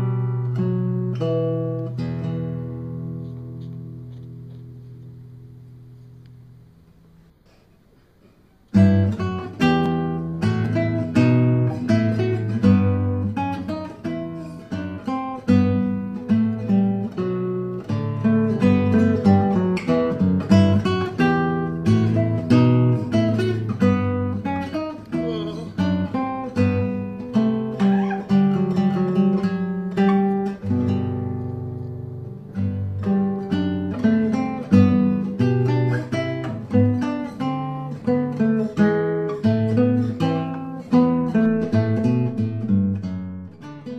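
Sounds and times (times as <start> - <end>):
solo acoustic guitar piece: 0.0 - 43.9.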